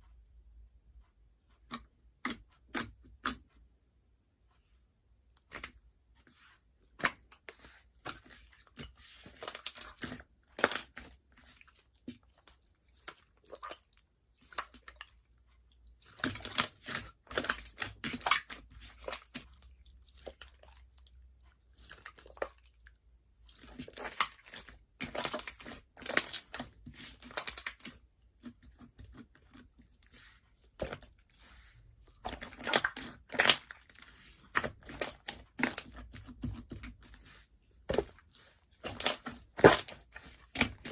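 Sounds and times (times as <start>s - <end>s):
slime squishing: 5.3s - 40.9s.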